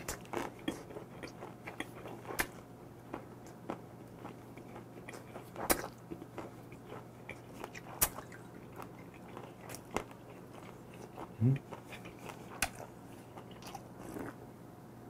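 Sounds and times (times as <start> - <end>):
wet crunching chewing: 0.0 - 14.4.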